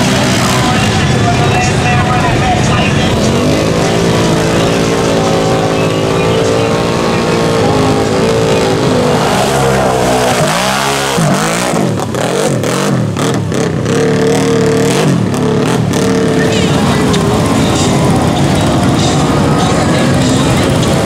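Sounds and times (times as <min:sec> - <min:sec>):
atv engines revving: 0:00.0 - 0:21.0.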